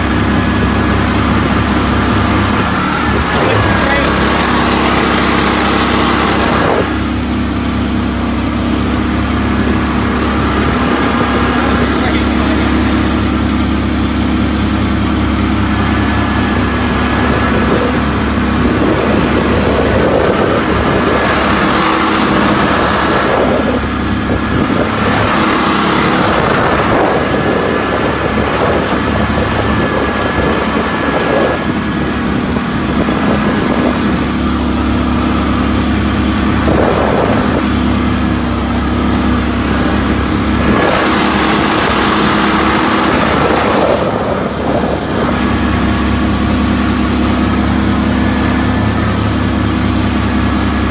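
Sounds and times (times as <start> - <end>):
boat motor running: 0.0 - 50.9.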